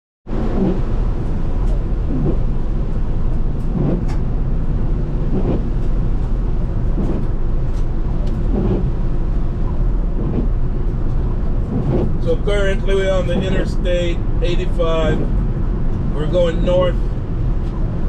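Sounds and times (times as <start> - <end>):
car driving low rumble: 0.3 - 18.0.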